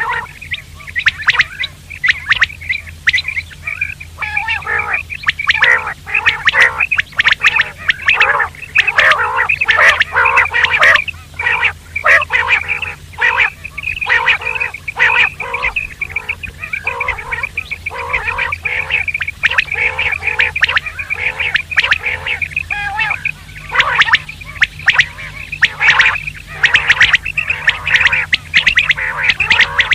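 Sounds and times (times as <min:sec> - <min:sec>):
quail calling: 0:00.0 - 0:29.9
steady low hum: 0:00.0 - 0:29.9.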